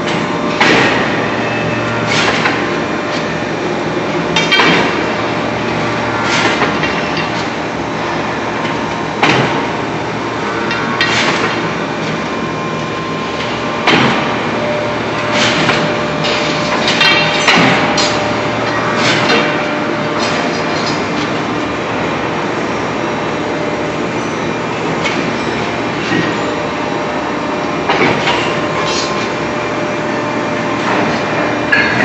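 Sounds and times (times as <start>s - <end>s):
constant hum: 0.0s - 32.0s.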